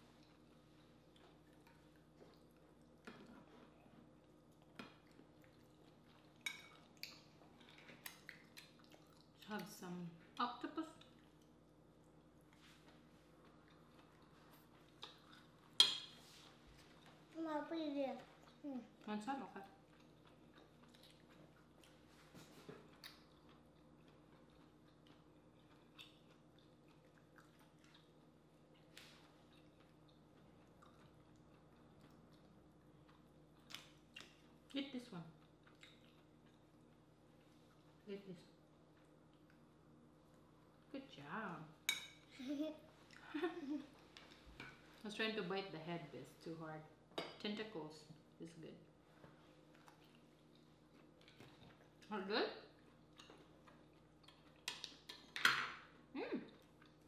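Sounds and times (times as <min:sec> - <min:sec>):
eating and chewing: 0:00.0 - 0:40.9, 0:42.2 - 0:45.1, 0:49.0 - 0:57.0.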